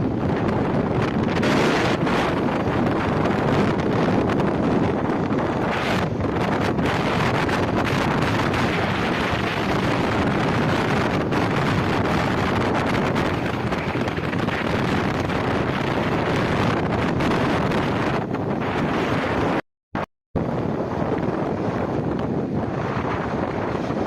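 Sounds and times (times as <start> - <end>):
wind buffeting microphone: 0.0 - 19.6, 20.4 - 24.0.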